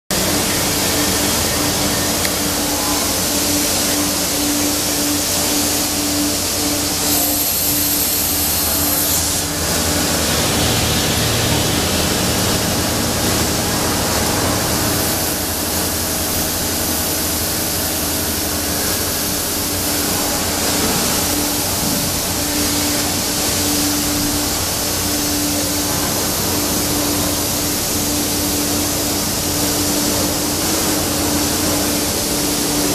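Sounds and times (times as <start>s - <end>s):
machine hum: 0.1s - 32.9s
machining center rushing hiss: 0.2s - 32.9s.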